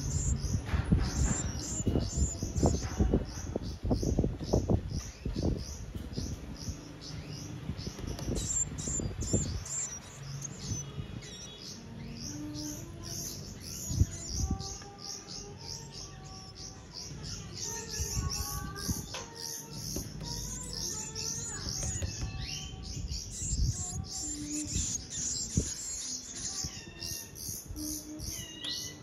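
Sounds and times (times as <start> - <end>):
nestlings begging chirps: 0.0 - 29.0.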